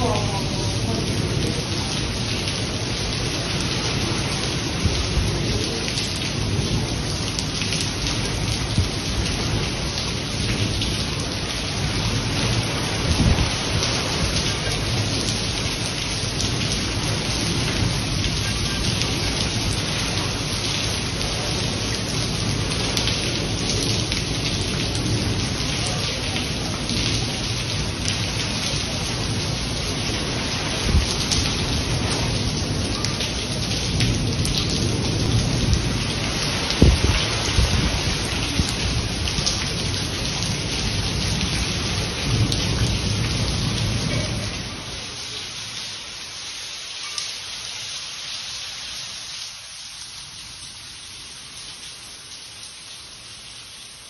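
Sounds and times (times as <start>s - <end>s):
heavy rain on lawn and foliage: 0.0s - 54.0s.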